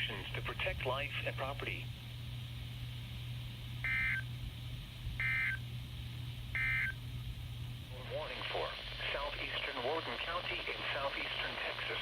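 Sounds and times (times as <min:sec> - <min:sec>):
low receiver hum: 0:00.0 - 0:12.0.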